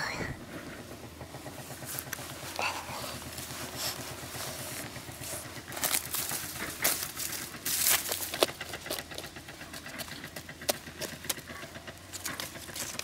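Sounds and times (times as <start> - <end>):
dry soil scraping and crunching: 1.5 - 13.0.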